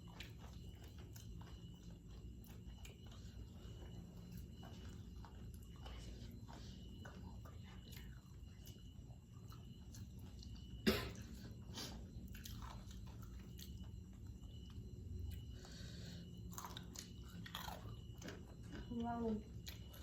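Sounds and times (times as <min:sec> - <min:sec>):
person chewing crispy chicken: 0:00.0 - 0:10.7, 0:11.5 - 0:18.9.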